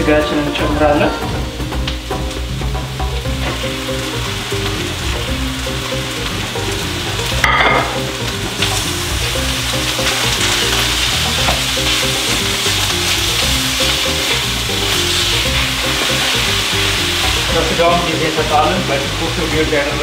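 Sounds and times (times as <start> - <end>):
meat sizzling in hot oil: 0.2 - 20.0.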